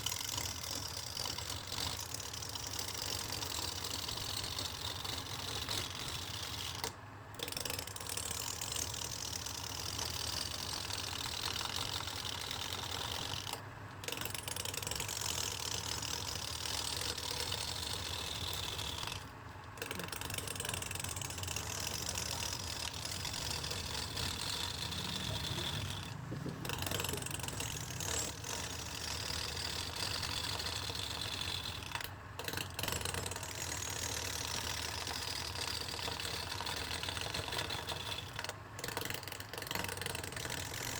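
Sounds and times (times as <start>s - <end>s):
turning tool scraping wood: 0.0s - 40.9s
wood lathe humming: 0.0s - 40.9s.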